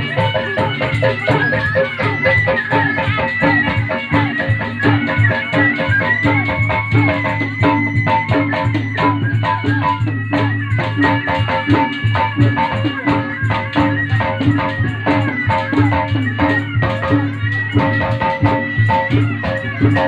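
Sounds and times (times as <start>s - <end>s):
high melody line: 0.0s - 20.0s.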